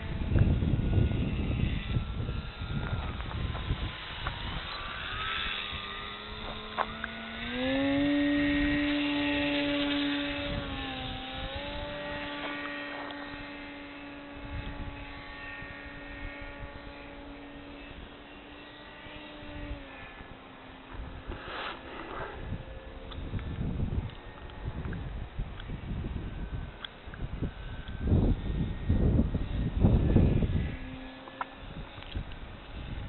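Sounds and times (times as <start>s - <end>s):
low rumbling noise: 0.0s - 33.0s
model plane motor whining: 0.0s - 33.0s.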